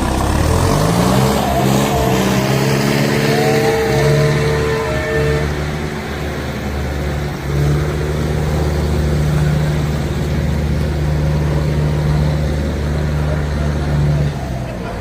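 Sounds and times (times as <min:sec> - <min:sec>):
heavy machine engine drone: 0:00.0 - 0:15.0.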